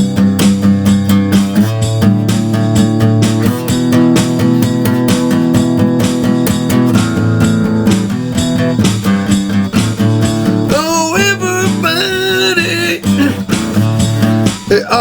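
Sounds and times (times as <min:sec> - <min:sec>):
wavering melody with bending notes: 0:00.0 - 0:14.6
strummed guitar chords: 0:00.0 - 0:15.0.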